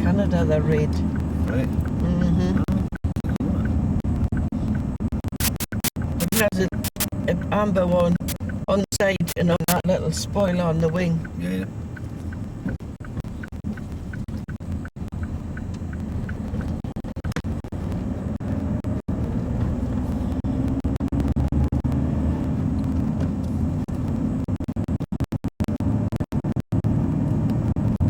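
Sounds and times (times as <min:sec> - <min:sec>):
faint indicator ticking: 0:00.0 - 0:25.9
lorry engine and road rumble: 0:00.0 - 0:28.0.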